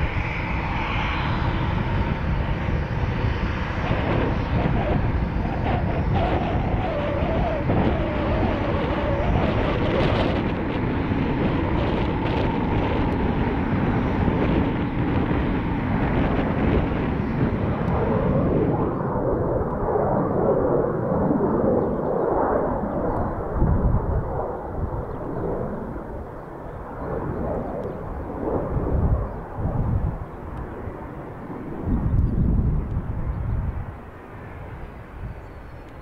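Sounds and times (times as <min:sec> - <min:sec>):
jet engines with wavering whine: 0:00.0 - 0:36.0
muffled jet roar: 0:00.0 - 0:36.0.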